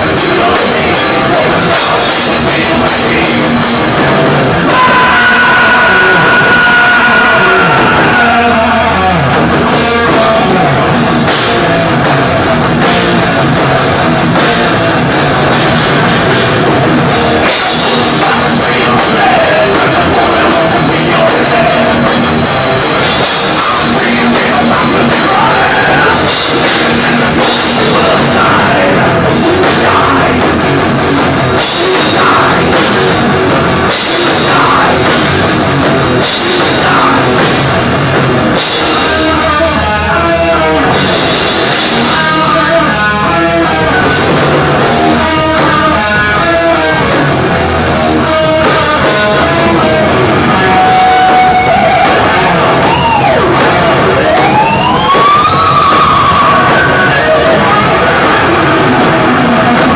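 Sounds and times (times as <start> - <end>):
fast drums with crashing cymbals: 0.0 - 40.0, 40.8 - 43.0, 44.0 - 59.9
distorted electric guitars: 0.0 - 59.9
thrash metal band playing: 0.0 - 59.9.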